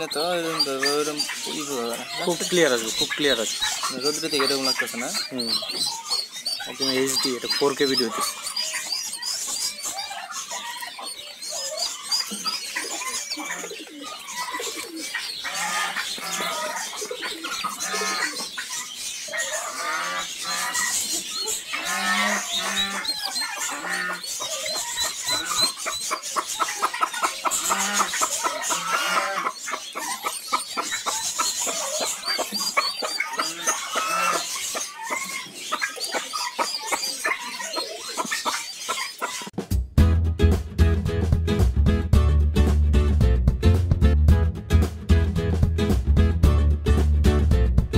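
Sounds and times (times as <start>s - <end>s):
baby chicks peeping: 0.0s - 39.6s.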